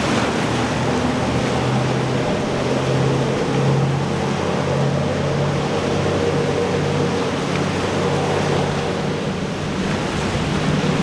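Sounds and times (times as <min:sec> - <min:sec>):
motorboat engine droning: 0:00.0 - 0:11.0
wind and water wash: 0:00.0 - 0:11.0.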